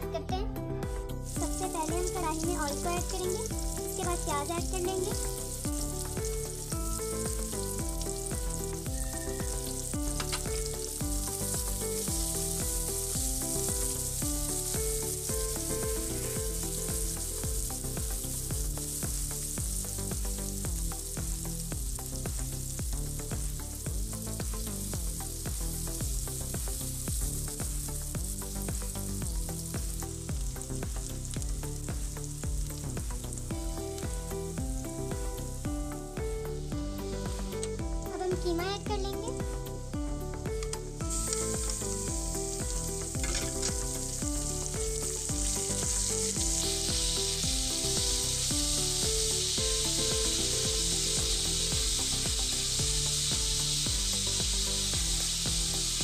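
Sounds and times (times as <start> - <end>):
soft background music: 0.0 - 56.0
onions sizzling in hot oil: 1.2 - 39.9, 40.8 - 56.0.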